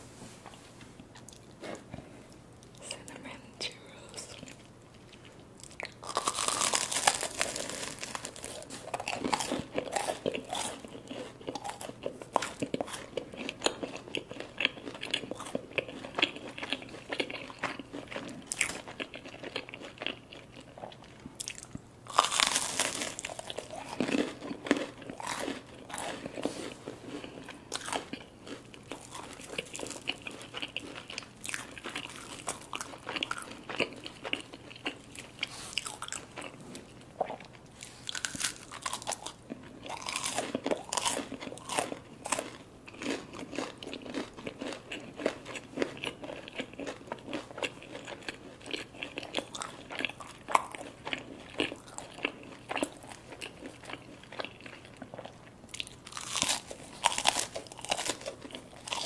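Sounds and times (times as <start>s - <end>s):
crunchy chewing: 3.9s - 59.0s.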